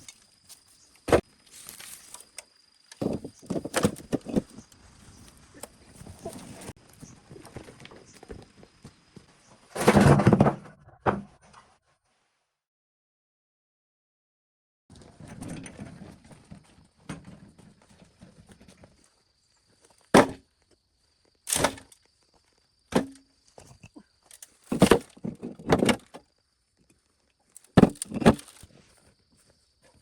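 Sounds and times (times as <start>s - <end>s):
rustling and scraping: 0.0s - 11.8s, 14.9s - 30.0s.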